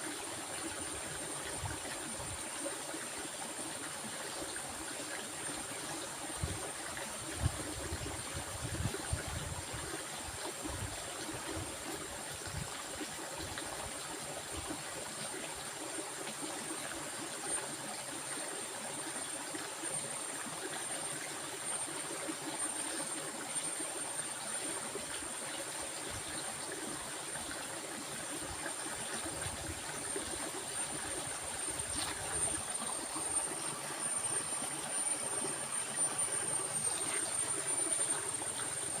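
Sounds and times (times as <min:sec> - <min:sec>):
stream water rushing: 0:00.0 - 0:39.0.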